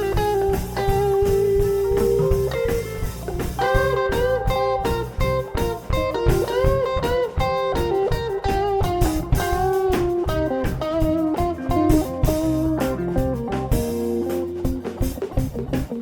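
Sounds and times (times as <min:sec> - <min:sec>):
lead guitar with bent notes: 0:00.0 - 0:16.0
live rock band: 0:00.0 - 0:16.0.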